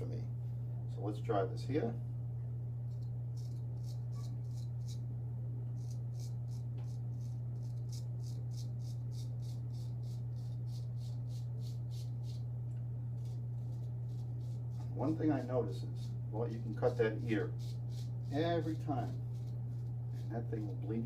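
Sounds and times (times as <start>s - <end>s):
steady low hum: 0.0s - 21.0s
razor scraping stubble: 2.8s - 5.1s, 5.7s - 12.5s, 13.1s - 21.0s.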